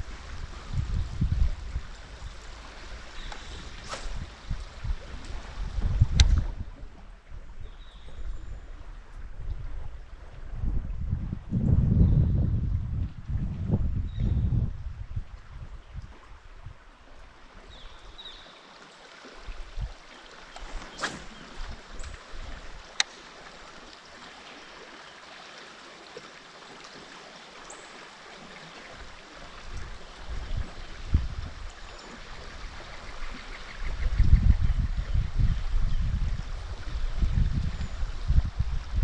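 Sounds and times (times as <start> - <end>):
flowing river water: 0.0 - 11.6, 12.6 - 39.0.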